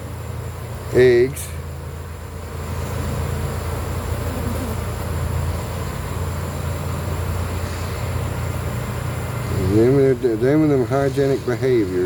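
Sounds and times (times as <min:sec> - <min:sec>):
honeybees buzzing: 0:01.9 - 0:12.0.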